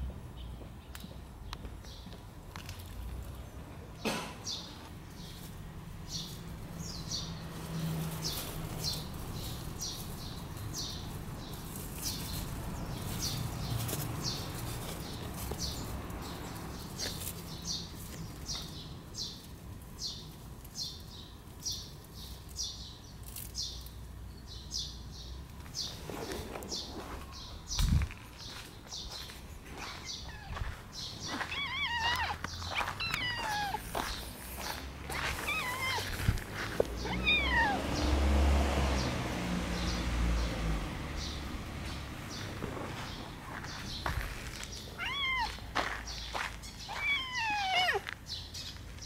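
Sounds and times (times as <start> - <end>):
small bird chirping: 6.1 - 38.1, 41.2 - 49.0.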